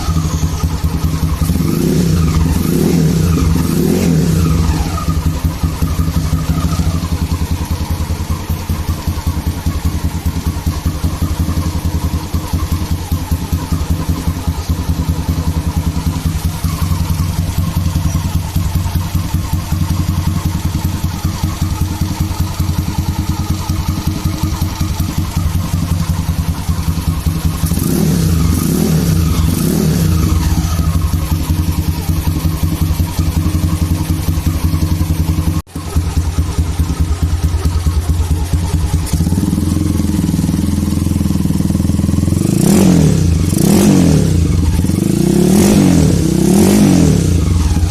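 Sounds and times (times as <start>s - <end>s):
motorcycle engine idling and revving: 0.0s - 47.9s.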